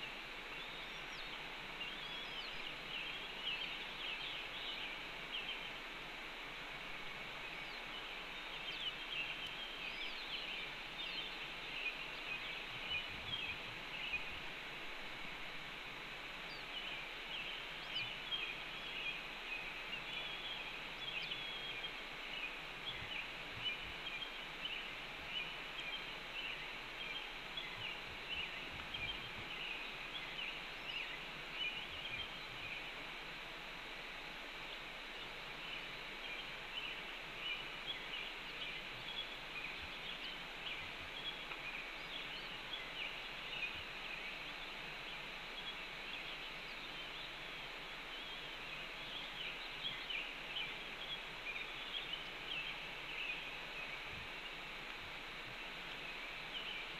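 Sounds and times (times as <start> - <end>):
steady background hiss: 0.0 - 56.9.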